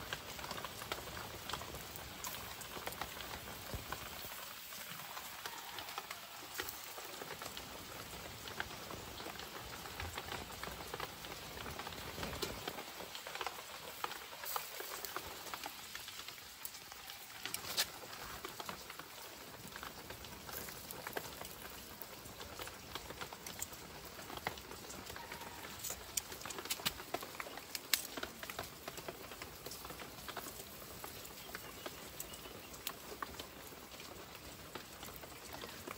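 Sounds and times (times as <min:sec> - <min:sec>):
meat sizzling on grill: 0:00.0 - 0:35.1
wood fire crackling: 0:00.0 - 0:35.9.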